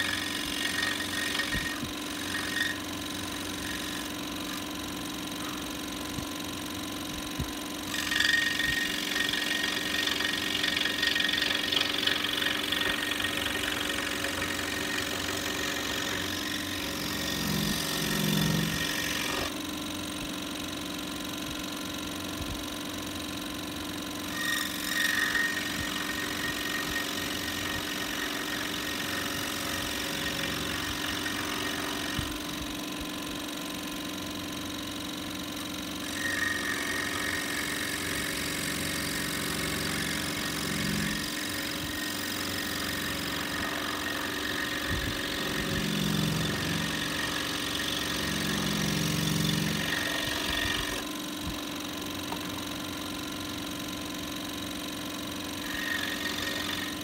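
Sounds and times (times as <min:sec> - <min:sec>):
scroll saw cutting wood: 0:00.0 - 0:19.7, 0:23.2 - 0:51.2, 0:51.8 - 0:57.0.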